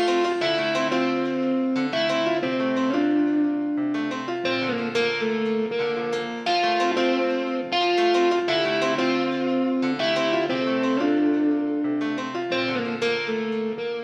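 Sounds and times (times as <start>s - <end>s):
piano melody: 0.0s - 14.0s
plucked strings: 0.0s - 14.0s.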